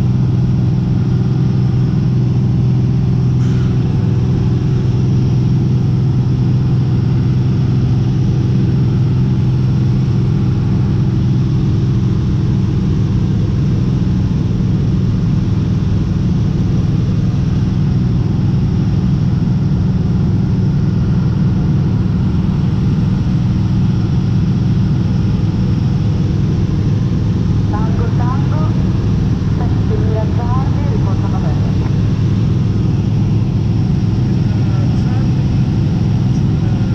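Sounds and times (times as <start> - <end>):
aircraft engine and propeller droning: 0.0 - 36.9.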